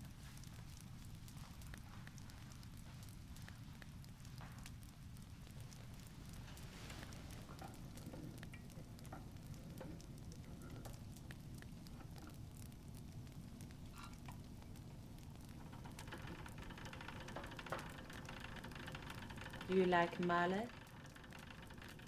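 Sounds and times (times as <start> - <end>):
gramophone crackle: 0.0 - 22.0.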